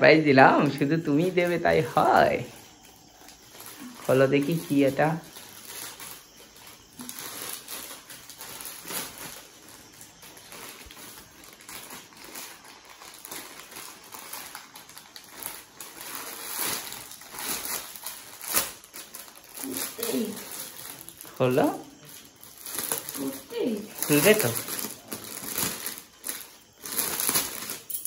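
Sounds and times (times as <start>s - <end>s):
gift packaging rustling: 0.5s - 28.0s.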